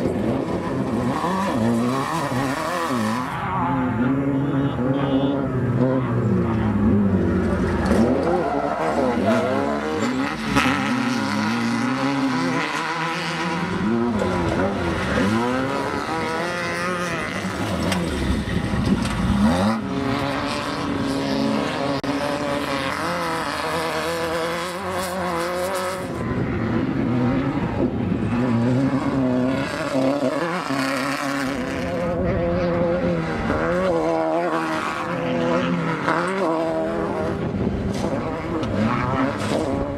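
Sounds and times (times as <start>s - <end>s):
buggy engines revving: 0.0s - 39.9s.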